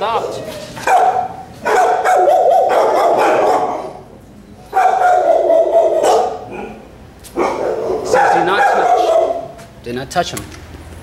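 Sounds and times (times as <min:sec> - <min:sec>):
dogs barking: 0:00.0 - 0:09.6.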